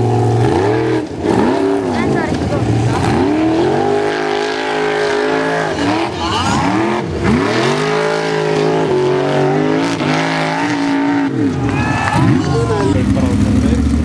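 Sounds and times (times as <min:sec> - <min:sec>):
buggy engine revving: 0:00.0 - 0:14.0.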